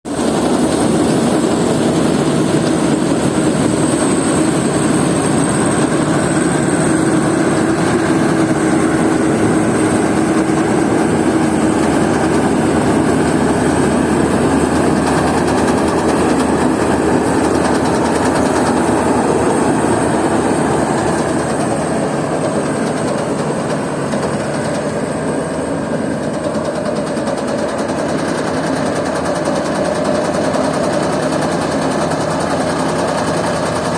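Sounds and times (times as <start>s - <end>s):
combine harvester drone: 0.1s - 33.9s.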